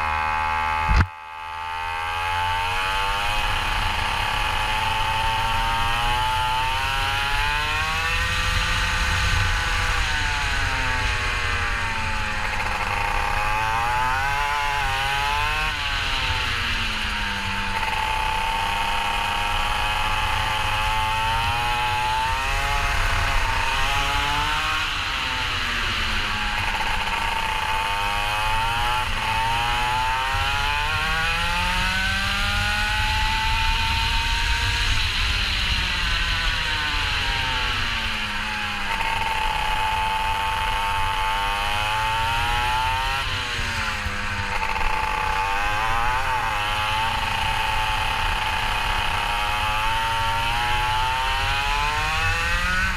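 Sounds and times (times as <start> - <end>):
kart engine accelerating: 0.0 - 52.9.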